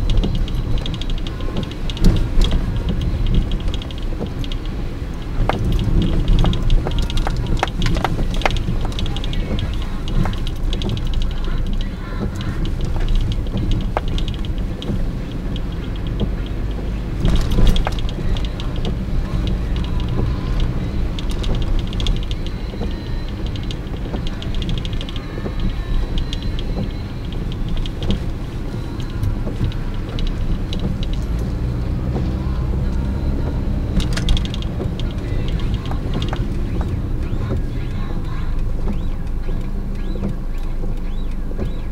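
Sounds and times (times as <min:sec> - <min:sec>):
engine and tyres on wet road: 0:00.0 - 0:41.9
fine rapid ticking: 0:00.0 - 0:41.9.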